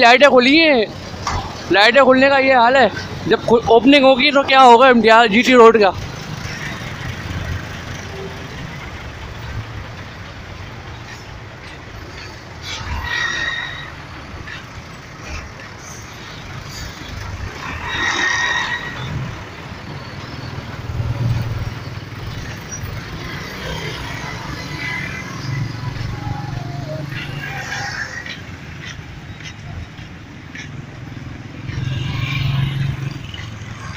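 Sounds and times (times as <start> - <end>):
traffic engines rumbling: 0.0 - 33.9.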